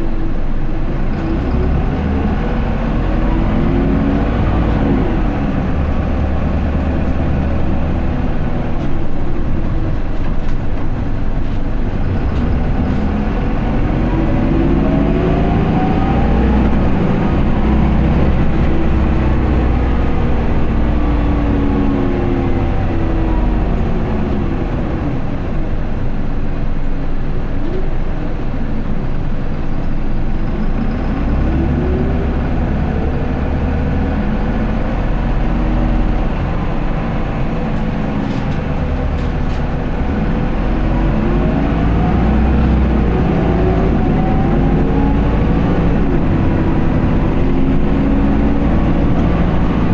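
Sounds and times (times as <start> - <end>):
bus diesel engine: 0.0 - 49.9
drivetrain and road rumble: 0.0 - 49.9.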